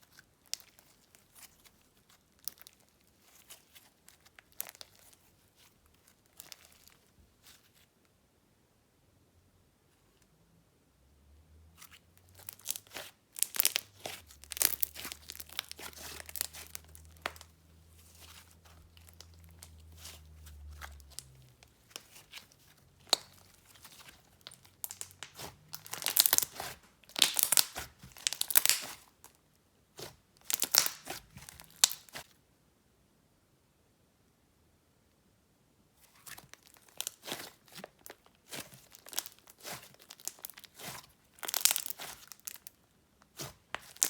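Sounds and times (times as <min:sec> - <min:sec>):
slime crackling and tearing: 0:00.0 - 0:07.6, 0:11.8 - 0:32.3, 0:36.0 - 0:44.0.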